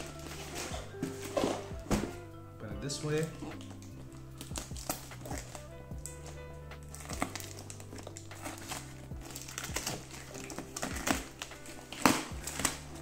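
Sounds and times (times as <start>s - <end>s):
cardboard box rustling and crinkling: 0.0s - 2.2s, 4.4s - 13.0s
background music: 0.0s - 13.0s.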